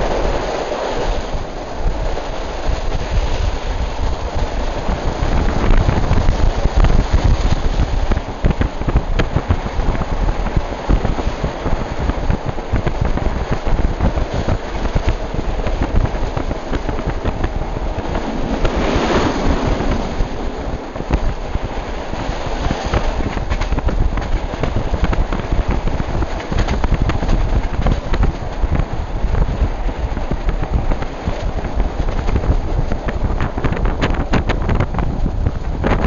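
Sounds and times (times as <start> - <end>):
rush of noise: 0.0 - 36.0
train rumbling and rattling: 0.0 - 36.0.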